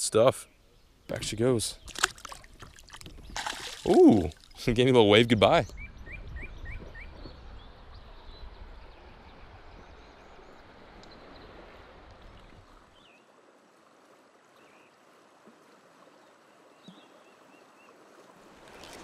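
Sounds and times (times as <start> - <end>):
flowing river water: 0.5 - 5.5, 6.8 - 19.0.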